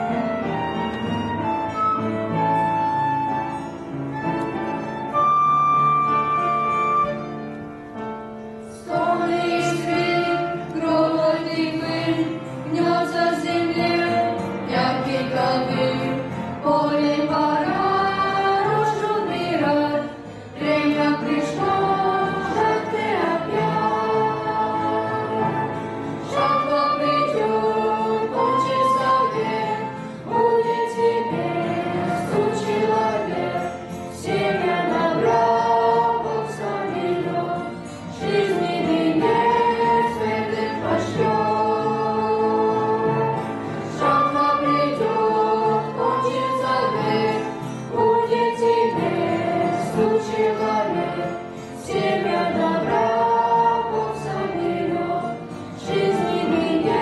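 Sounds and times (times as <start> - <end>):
choir singing a hymn: 8.6 - 57.0.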